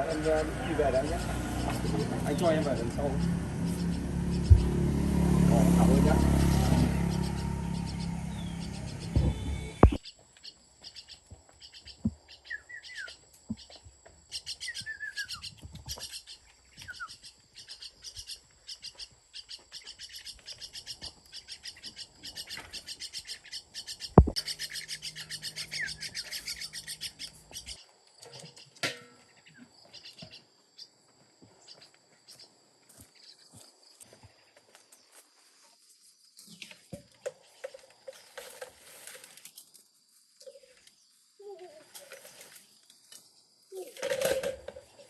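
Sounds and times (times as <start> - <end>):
small birds chirping: 0.0 - 39.7.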